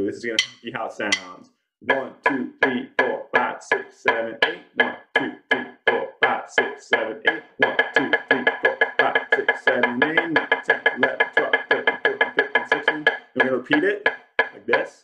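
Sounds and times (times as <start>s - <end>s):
drumsticks striking a beat: 0.4s - 15.0s.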